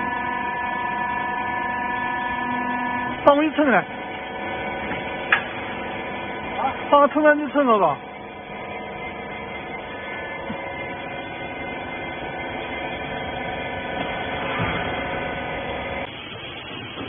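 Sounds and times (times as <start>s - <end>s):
electric pump motor humming: 0.0s - 17.0s.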